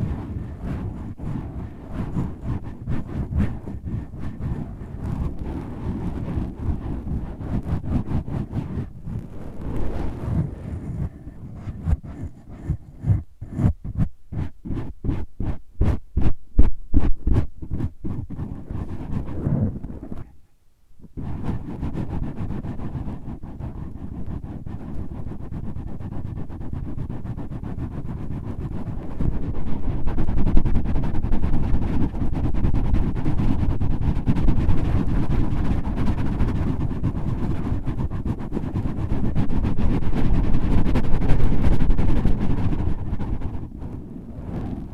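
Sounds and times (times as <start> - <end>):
scratching on microphone windscreen: 0.0 - 20.4, 21.0 - 44.9.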